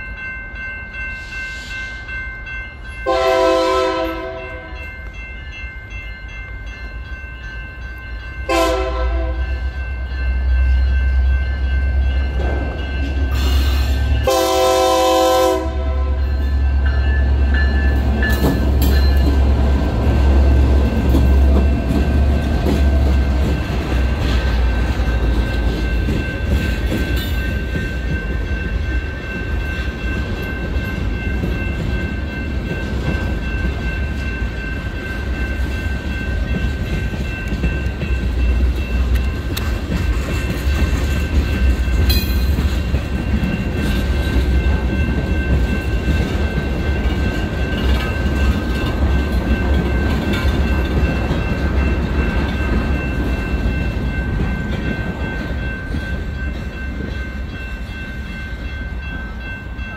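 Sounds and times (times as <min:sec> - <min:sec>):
crossing bell ringing: 0:00.0 - 0:59.9
freight train rumble: 0:00.0 - 0:59.9.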